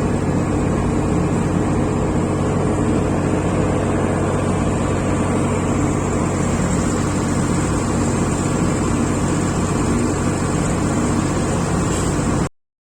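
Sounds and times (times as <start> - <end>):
diesel engine running steadily: 0.0 - 12.5.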